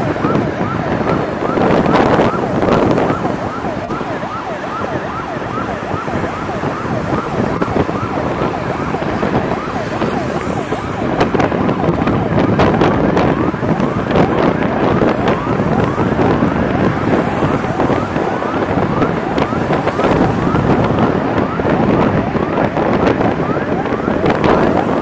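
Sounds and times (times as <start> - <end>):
road and wind noise: 0.0 - 25.0
siren yelping: 0.0 - 25.0.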